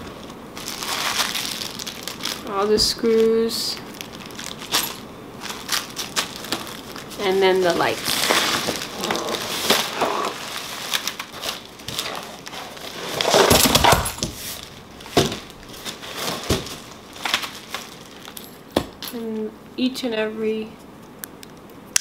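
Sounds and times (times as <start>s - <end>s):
cardboard and plastic rustling: 0.0s - 19.1s.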